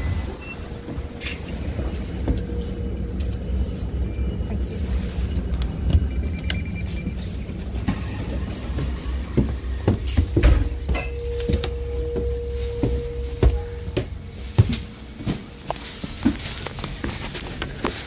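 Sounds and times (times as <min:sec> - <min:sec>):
bus engine rumbling: 0:00.0 - 0:18.0.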